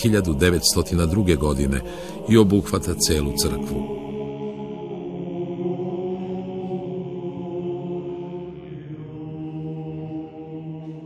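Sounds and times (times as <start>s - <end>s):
voices chanting in a drone: 0.0s - 11.0s.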